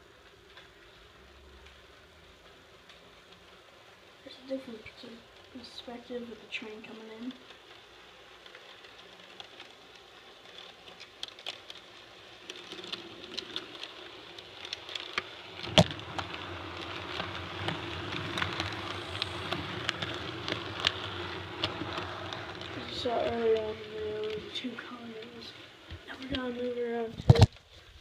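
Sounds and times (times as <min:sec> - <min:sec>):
model train motor hum: 0:00.0 - 0:27.1
small rattling clicks: 0:04.6 - 0:27.6.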